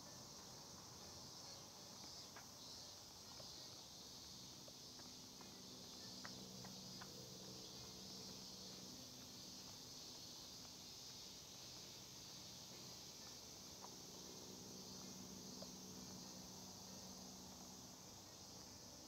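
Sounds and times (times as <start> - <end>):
cicadas droning: 0.0 - 19.0.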